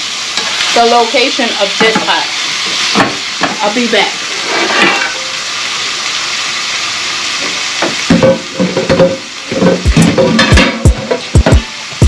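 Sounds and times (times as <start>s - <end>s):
meat sizzling in pan: 0.0s - 12.0s.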